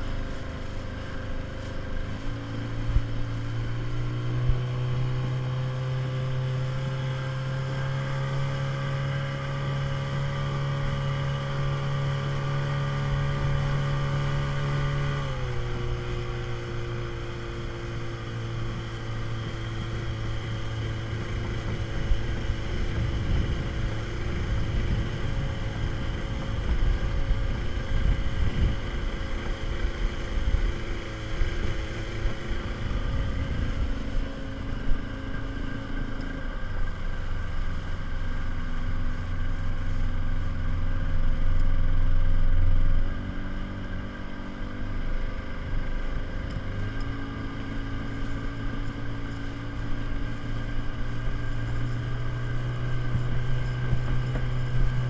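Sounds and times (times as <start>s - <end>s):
speedboat engine running: 0.0s - 55.0s.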